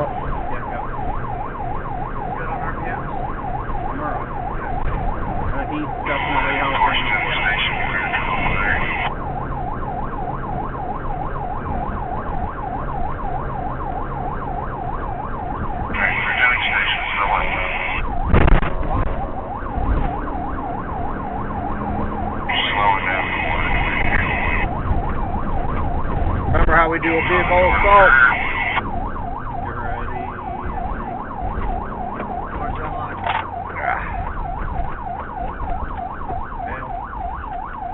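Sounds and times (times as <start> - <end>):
car engine and road noise: 0.0 - 37.9
high steady siren tone: 0.0 - 37.9
police siren yelping: 0.0 - 37.9.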